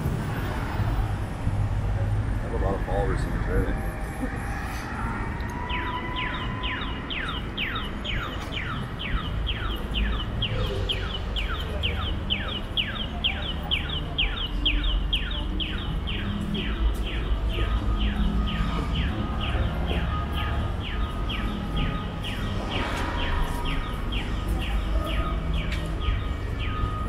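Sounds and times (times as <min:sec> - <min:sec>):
low traffic rumble: 0:00.0 - 0:27.0
crossing signal chirping: 0:02.6 - 0:27.0.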